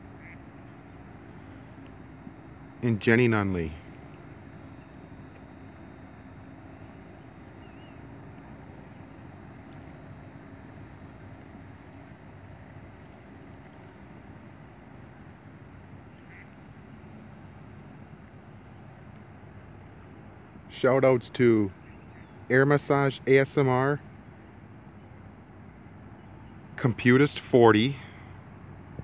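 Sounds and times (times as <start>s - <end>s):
faint low hum: 0.0s - 29.0s
insects chirping: 0.0s - 29.0s.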